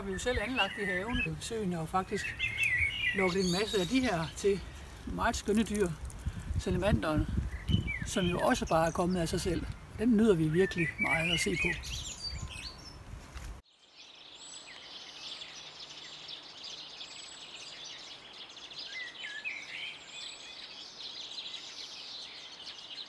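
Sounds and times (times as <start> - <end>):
soft outdoor hiss: 0.0 - 23.0
songbirds chirping and whistling: 0.0 - 23.0.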